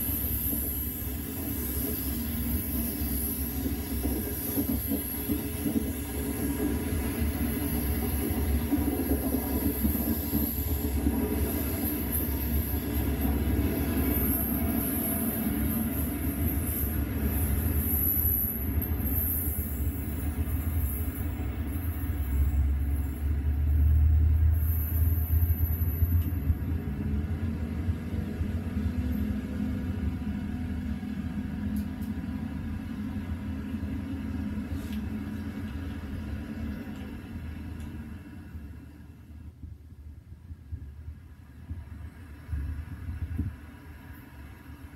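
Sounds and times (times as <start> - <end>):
high hiss of passing train: 0.0 - 44.9
train rumbling on rails: 0.0 - 44.9.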